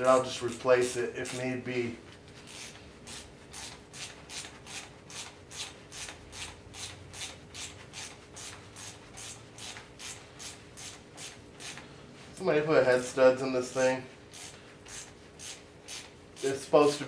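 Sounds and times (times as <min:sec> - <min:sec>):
rhythmic rasping hand tool strokes: 0:00.0 - 0:17.0.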